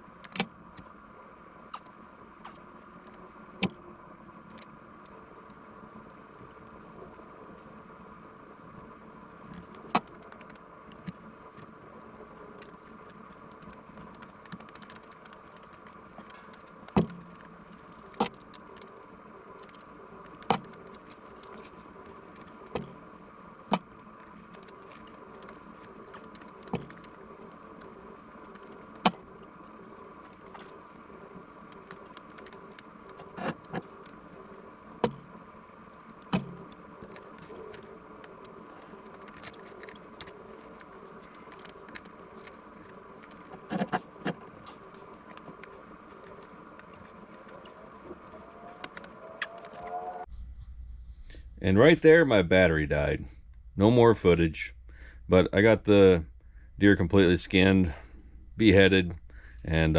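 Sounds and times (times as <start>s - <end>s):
faint hum: 0.0s - 59.9s.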